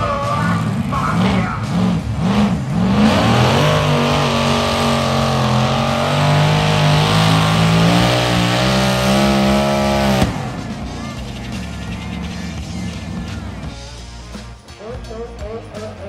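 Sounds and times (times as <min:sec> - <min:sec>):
engine running at high revs: 0:00.0 - 0:14.2.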